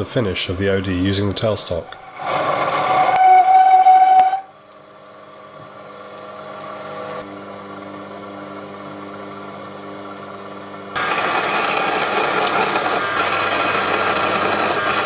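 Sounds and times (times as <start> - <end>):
lathe motor whine: 1.7 - 15.0.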